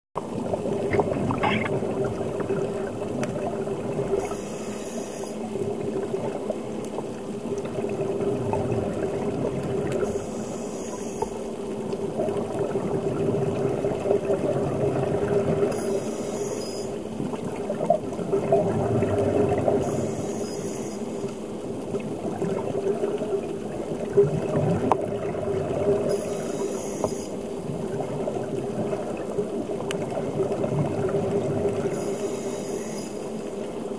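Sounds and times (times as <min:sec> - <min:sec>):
watery wash: 0:00.2 - 0:33.9.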